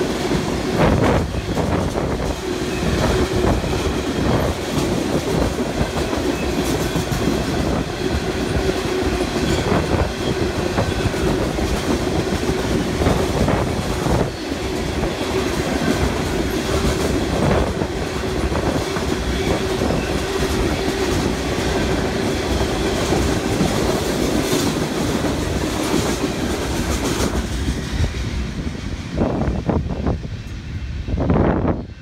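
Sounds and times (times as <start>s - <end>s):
freight train wheels clattering: 0.0s - 29.8s.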